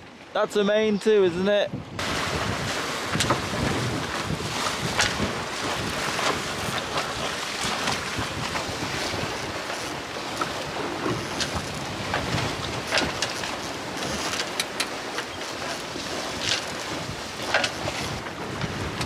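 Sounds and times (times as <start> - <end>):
water rushing along hull: 0.0 - 19.0
wind buffeting microphone: 1.5 - 19.0
sharp water splashes: 2.0 - 18.2.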